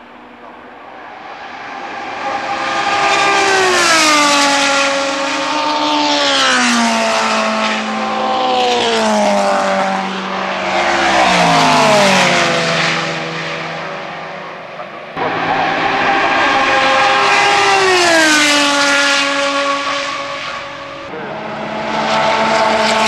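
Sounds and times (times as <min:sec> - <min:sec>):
race cars passing at speed: 0:00.0 - 0:23.0.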